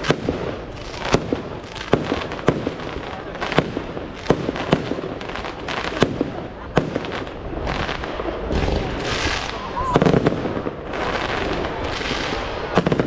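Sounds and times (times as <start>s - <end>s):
firework bangs: 0.0s - 13.0s
firework crackle: 0.0s - 13.0s.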